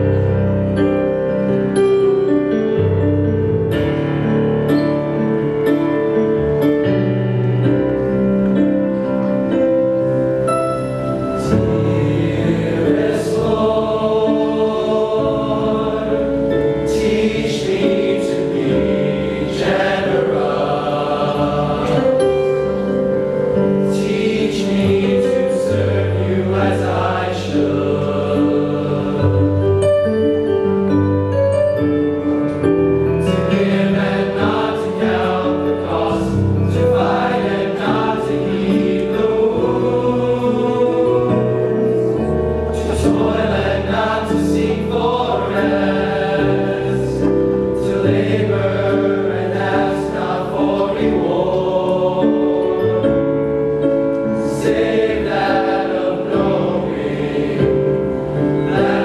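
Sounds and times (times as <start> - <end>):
choir singing sustained chords: 0.0 - 31.3, 32.2 - 59.0.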